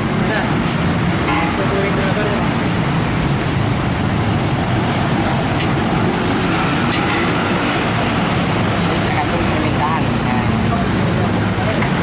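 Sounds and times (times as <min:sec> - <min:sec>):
loud rushing roar: 0:00.0 - 0:12.0.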